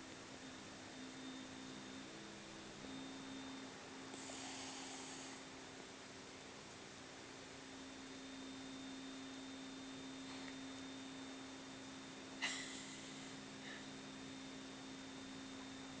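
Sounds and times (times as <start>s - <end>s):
faint low hum: 0.0s - 16.0s
thin high whine: 0.0s - 16.0s.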